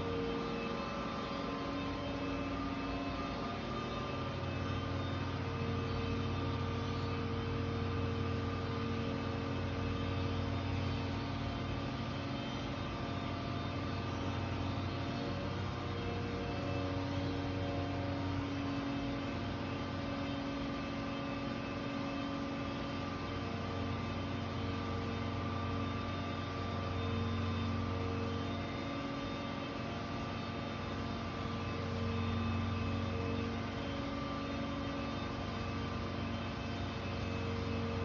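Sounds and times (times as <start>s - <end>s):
machine droning: 0.0s - 38.0s.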